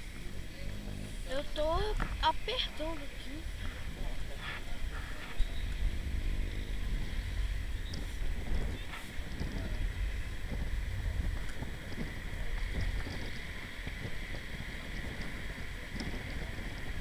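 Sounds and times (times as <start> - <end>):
high-pitched background hum: 0.0 - 17.0
wind buffeting microphone: 0.0 - 17.0.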